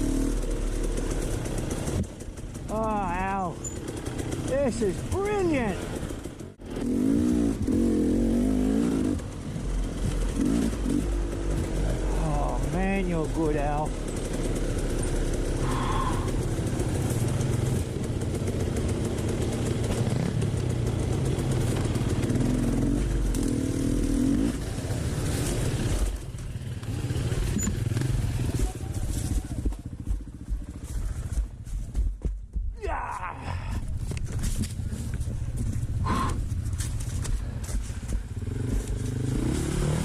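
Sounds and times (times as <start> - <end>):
dirt bike engine revving: 0.0 - 31.5, 34.8 - 40.0.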